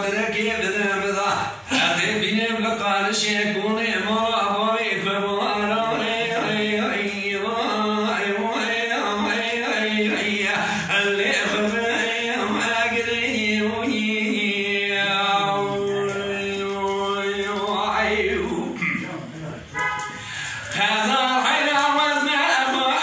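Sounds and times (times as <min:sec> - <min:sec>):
man singing unaccompanied: 0:00.0 - 0:19.0, 0:20.5 - 0:23.0.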